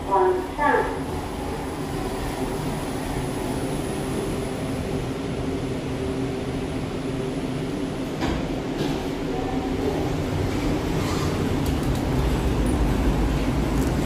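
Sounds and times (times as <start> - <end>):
metro train rumble: 0.0 - 14.0.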